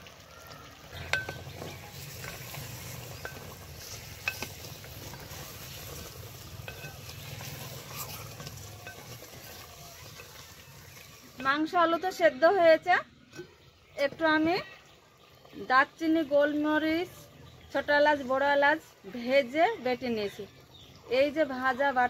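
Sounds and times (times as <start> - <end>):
food sizzling in covered pot: 0.0 - 22.0.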